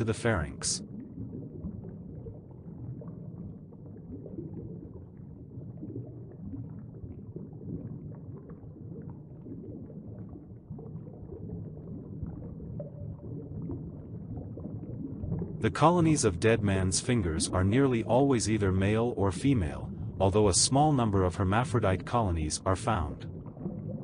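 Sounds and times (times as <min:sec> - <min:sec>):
faint bubbling crackles: 0:00.0 - 0:24.0
low underwater rumble: 0:00.0 - 0:24.0.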